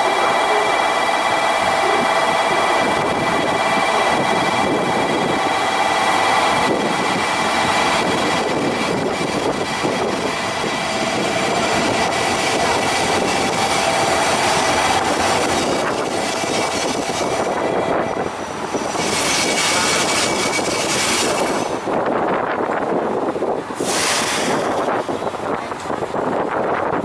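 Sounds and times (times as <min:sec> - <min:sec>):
diesel train engine running: 0:00.0 - 0:27.0.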